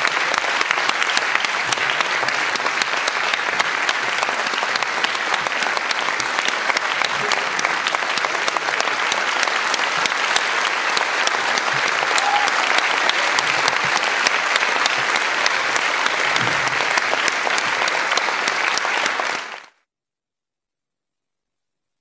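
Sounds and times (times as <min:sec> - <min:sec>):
audience applauding: 0:00.0 - 0:19.8.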